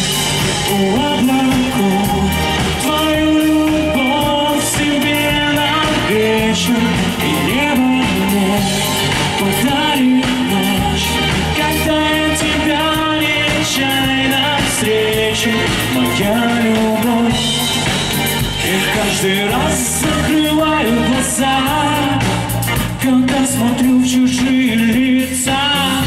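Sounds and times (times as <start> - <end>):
drums: 0.0 - 26.0
electric guitars: 0.0 - 26.0
male lead singer: 0.0 - 26.0.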